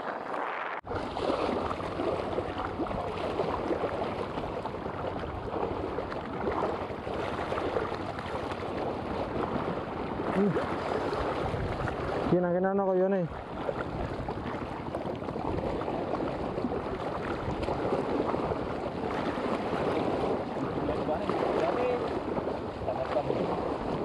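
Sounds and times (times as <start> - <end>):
waves splashing against rocks: 0.0 - 24.0.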